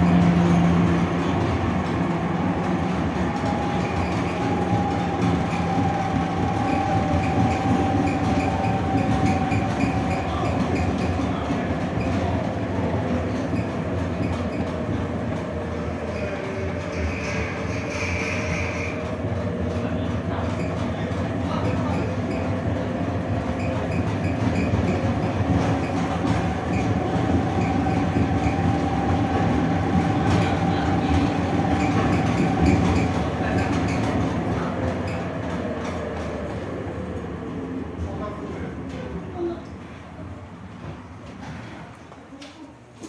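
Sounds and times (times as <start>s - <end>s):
tram motor whine: 0.0s - 38.2s
tram wheels rumbling on rails: 0.0s - 42.3s.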